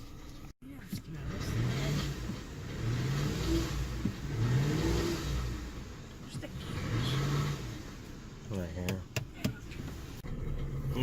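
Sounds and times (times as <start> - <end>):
car engine revving: 0.8 - 11.0.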